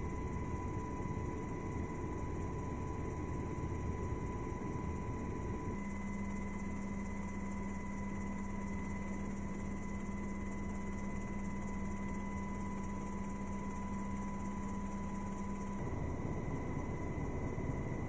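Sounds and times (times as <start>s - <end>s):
helicopter cabin hum and whine: 0.0s - 18.0s.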